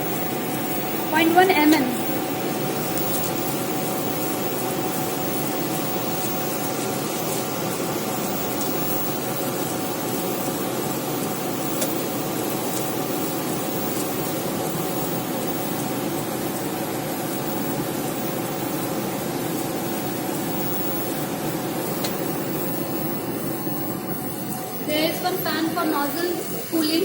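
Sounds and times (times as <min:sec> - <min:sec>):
thin steady tone: 0:00.0 - 0:27.0.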